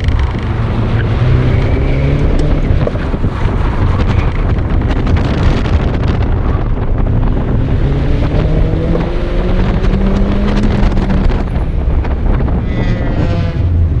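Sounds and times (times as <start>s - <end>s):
car engine accelerating: 0.0s - 14.0s
wind buffeting: 0.0s - 14.0s.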